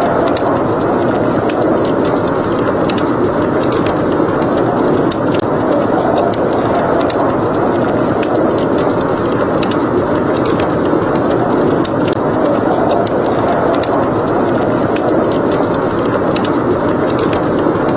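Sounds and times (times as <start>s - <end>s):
snowstorm wind rushing: 0.0s - 17.9s
wood fire crackling and popping: 0.0s - 17.9s.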